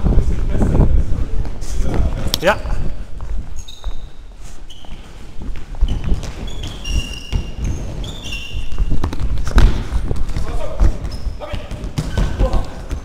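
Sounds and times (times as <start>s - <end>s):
sports shoes squeaking on floor: 1.6s - 13.0s.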